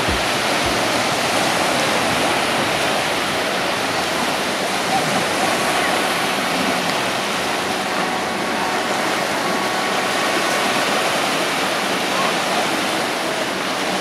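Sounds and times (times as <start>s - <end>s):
small waves breaking on shore: 0.0s - 14.0s.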